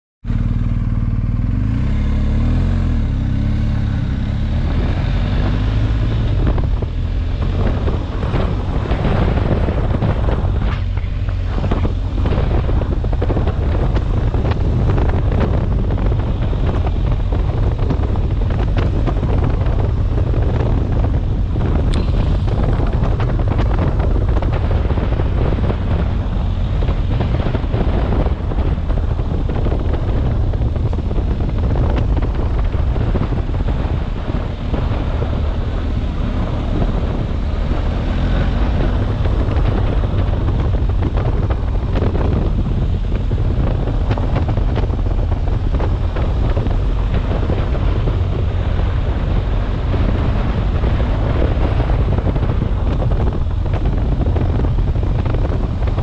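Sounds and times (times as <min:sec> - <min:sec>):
motorcycle engine running: 0:00.2 - 0:56.0
wind buffeting microphone: 0:00.3 - 0:56.0.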